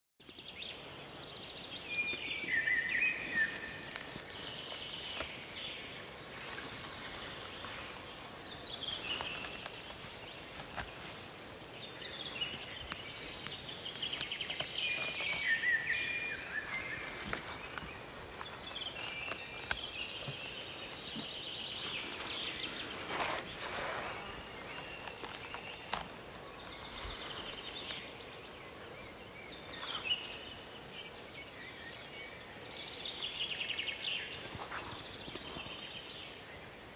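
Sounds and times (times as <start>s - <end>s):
songbird singing: 0.2s - 36.9s
outdoor hiss: 0.3s - 36.9s
rustling in undergrowth: 0.4s - 36.9s.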